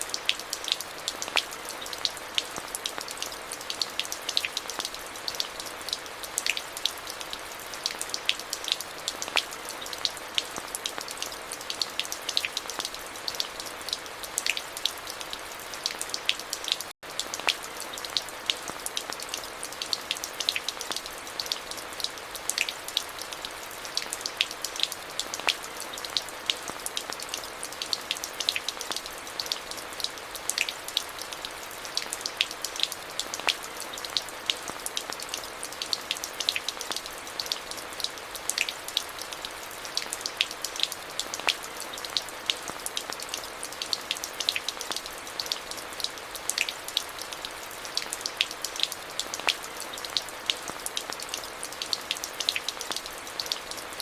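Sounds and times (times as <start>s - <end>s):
rain on hard surfaces: 0.0s - 54.0s
raindrops ticking: 0.1s - 54.0s.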